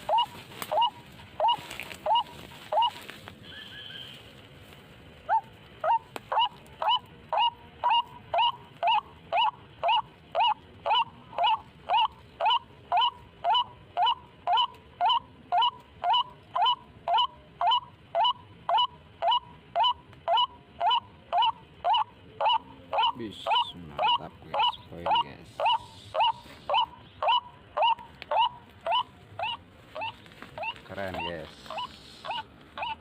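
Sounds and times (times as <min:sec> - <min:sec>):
waterhen calling: 0:00.0 - 0:04.2, 0:05.3 - 0:33.0.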